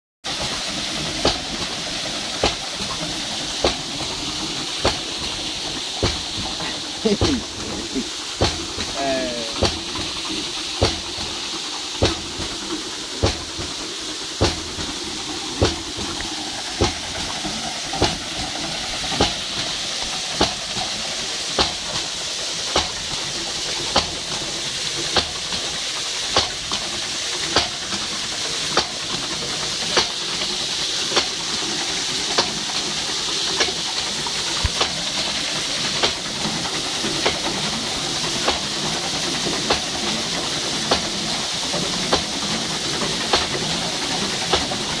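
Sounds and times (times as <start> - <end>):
spraying water rushing: 0.3 - 45.0
water wheel knocking: 0.3 - 45.0.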